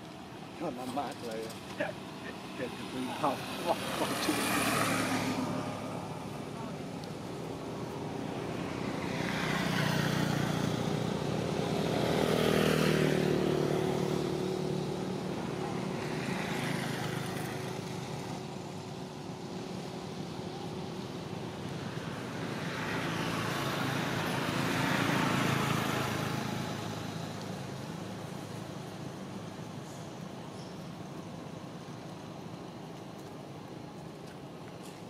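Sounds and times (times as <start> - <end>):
vehicles passing: 0.0 - 35.0.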